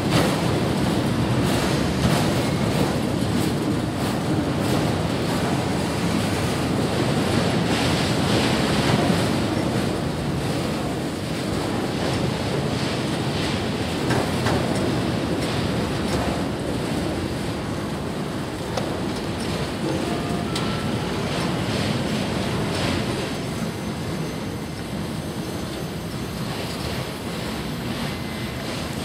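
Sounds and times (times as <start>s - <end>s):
train wheels rushing on rail: 0.0s - 29.0s.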